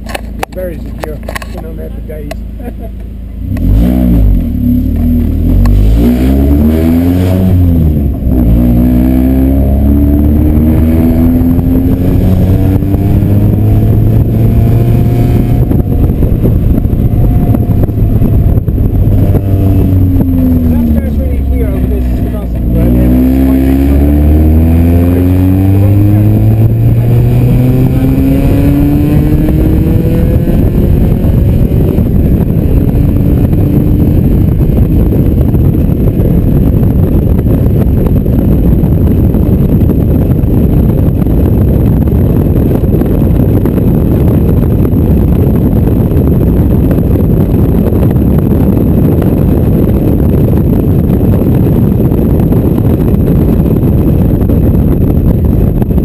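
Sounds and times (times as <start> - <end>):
car engine pulling hard: 0.0 - 56.0
wind buffeting: 3.6 - 56.0.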